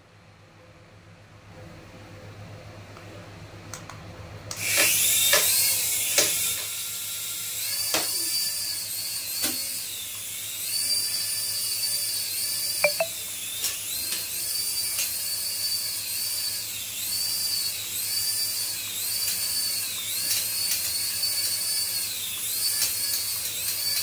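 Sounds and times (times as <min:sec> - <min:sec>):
toy helicopter motor whine: 0:04.6 - 0:24.0.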